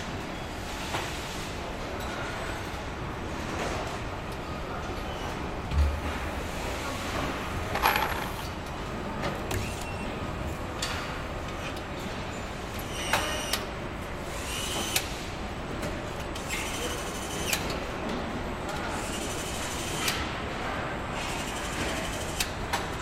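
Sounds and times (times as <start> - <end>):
factory machinery hum: 0.0 - 23.0.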